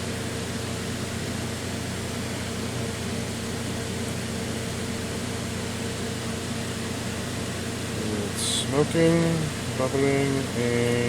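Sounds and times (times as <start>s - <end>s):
induction heater hissing: 0.0s - 11.0s
low electrical hum: 0.0s - 11.0s.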